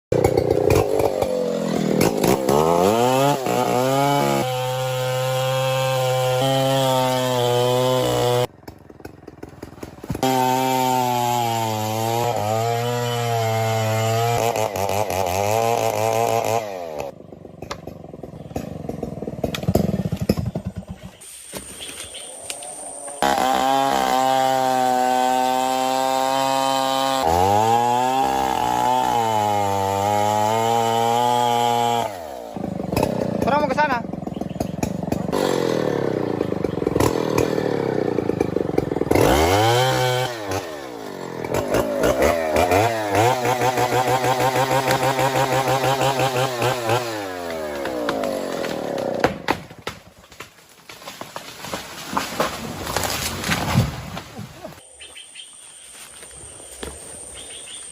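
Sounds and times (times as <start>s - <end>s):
chainsaw engine revving: 0.1s - 21.0s, 22.5s - 49.6s.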